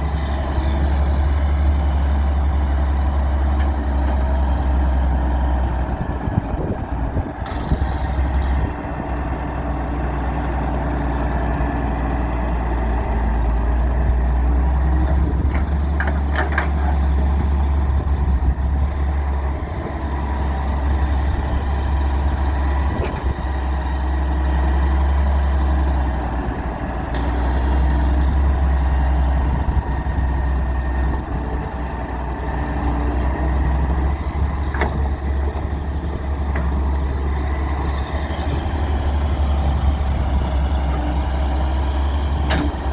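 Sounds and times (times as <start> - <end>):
excavator diesel engine under load: 0.0 - 42.9.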